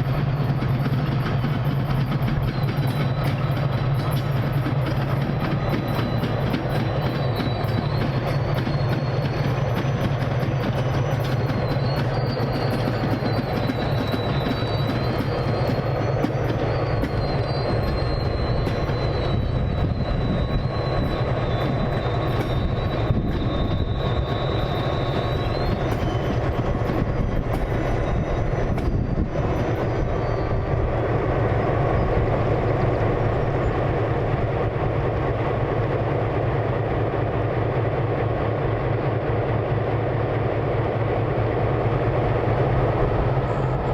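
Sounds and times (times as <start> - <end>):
high wheel squeal: 0.0 - 35.2, 40.9 - 43.9
train wheels rumbling on rail: 0.0 - 43.9.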